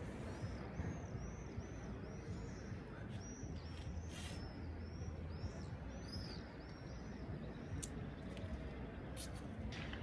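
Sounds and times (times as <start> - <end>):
birds chirping: 0.0 - 10.0
city traffic hum: 0.0 - 10.0.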